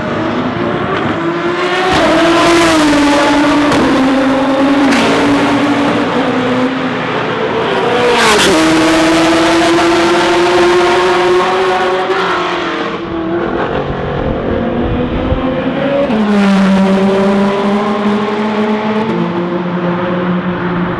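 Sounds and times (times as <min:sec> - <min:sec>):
supercar engines revving high: 0:00.0 - 0:20.9.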